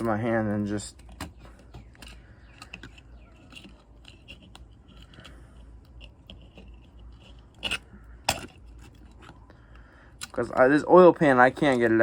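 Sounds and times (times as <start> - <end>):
hand tool clicking and scraping plastic: 0.0 - 12.0.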